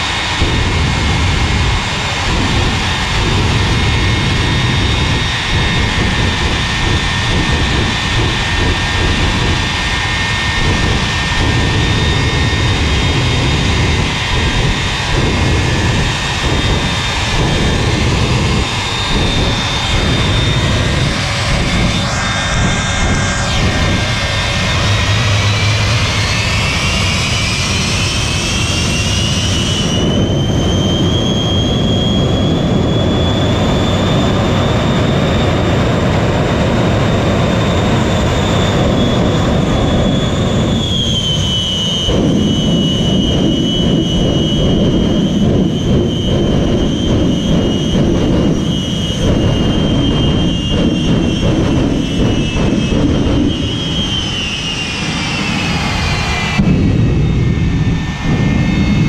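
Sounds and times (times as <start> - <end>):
high turbine whine: 0.0 - 59.0
jet engines roaring: 0.0 - 59.0.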